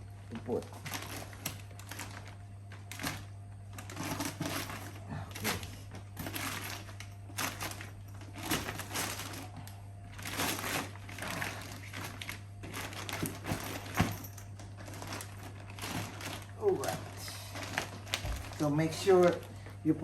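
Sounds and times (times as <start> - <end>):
steady low hum: 0.0 - 20.0
bag rustling and scraping: 0.7 - 19.6.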